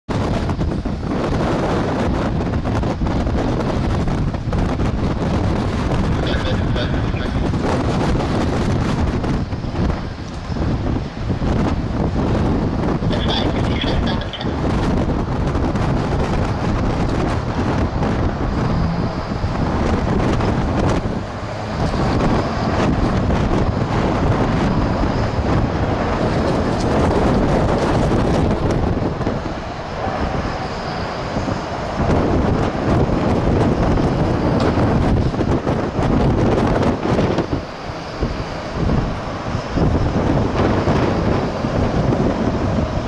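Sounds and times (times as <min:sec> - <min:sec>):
faint high engine whine: 0:00.1 - 0:43.0
jet engines on landing: 0:00.1 - 0:43.0
wind buffeting microphone: 0:00.1 - 0:43.0.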